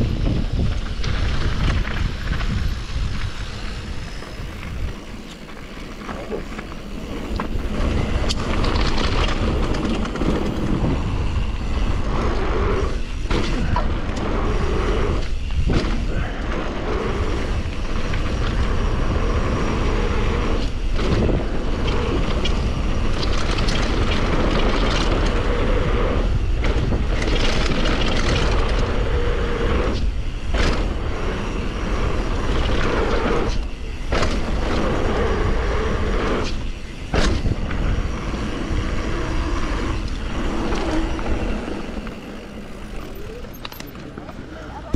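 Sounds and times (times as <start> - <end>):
bike rattles and clicks: 0.0 - 44.9
bike tyres rolling: 0.0 - 44.9
wind rumbling on microphone: 0.0 - 44.9.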